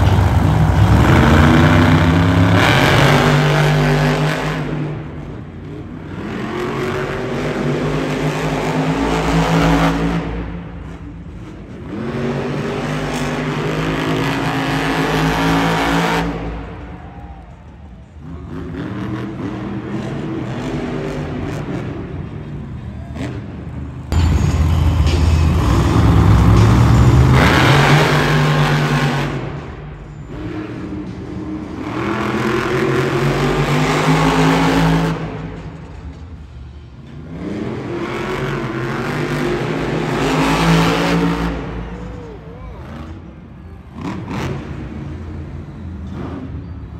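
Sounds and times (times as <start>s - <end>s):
truck engines revving: 0.0s - 46.9s.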